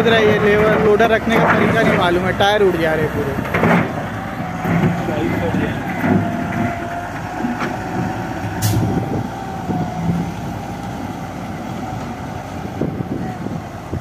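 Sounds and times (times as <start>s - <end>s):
diesel engine whining under load: 0.0s - 14.0s.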